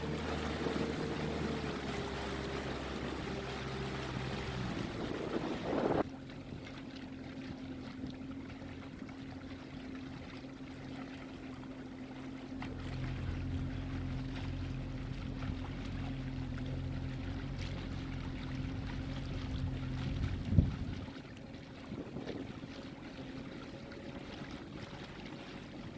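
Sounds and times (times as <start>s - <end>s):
boat engine humming: 0.0s - 25.9s
water noise: 0.0s - 25.9s
wind: 0.0s - 25.9s.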